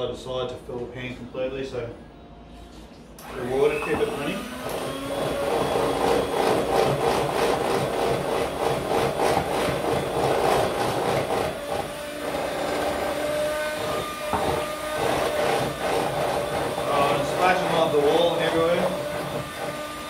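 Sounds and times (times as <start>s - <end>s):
hand mixer motor whine: 3.2s - 20.0s
beaters scraping bowl: 3.5s - 20.0s.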